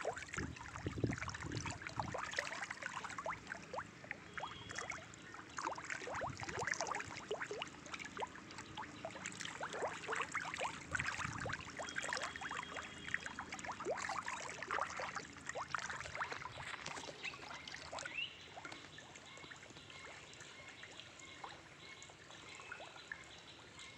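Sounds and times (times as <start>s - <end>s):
fish splashing in pond: 0.0s - 22.2s.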